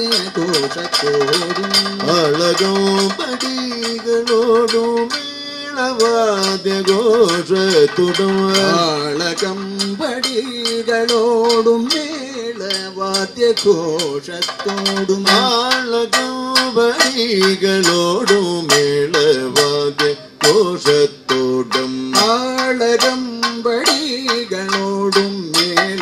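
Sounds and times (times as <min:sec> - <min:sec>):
drum strokes: 0:00.0 - 0:26.0
man singing long notes: 0:00.0 - 0:26.0
metallic cymbal strikes: 0:00.0 - 0:26.0.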